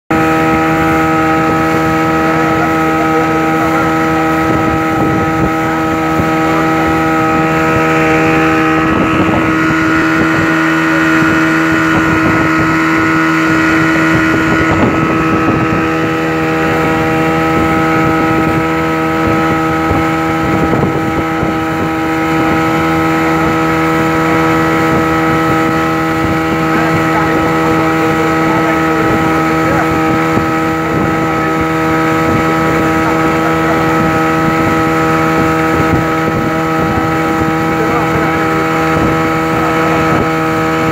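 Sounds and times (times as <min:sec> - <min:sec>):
outboard motor droning: 0:00.0 - 0:40.9
water rushing along hull: 0:00.1 - 0:40.9.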